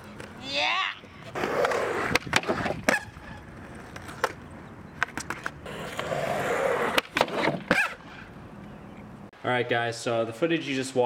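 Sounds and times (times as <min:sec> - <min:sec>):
skateboard wheels rolling on pavement: 0:00.0 - 0:09.3.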